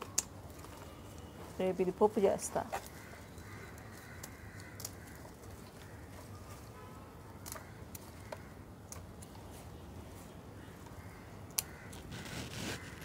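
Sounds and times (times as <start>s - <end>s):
faint birds calling: 0.0s - 13.0s.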